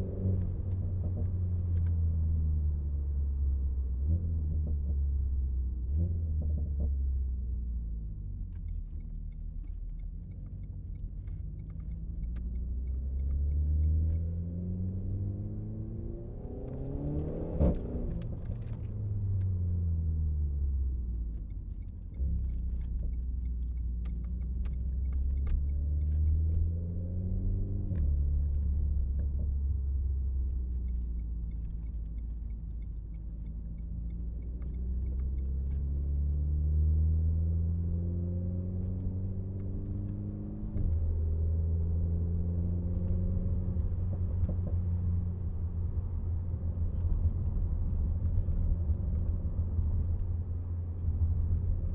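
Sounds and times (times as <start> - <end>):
car engine droning: 0.0 - 51.9.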